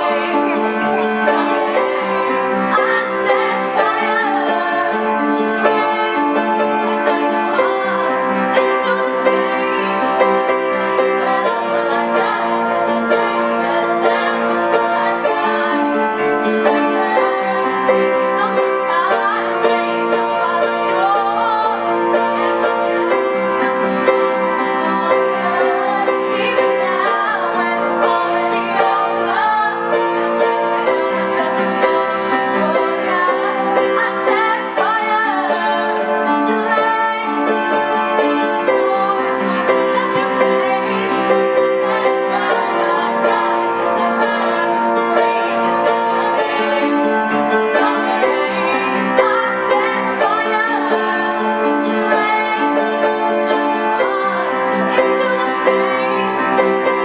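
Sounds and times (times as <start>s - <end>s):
instrumental accompaniment: 0.0s - 57.0s.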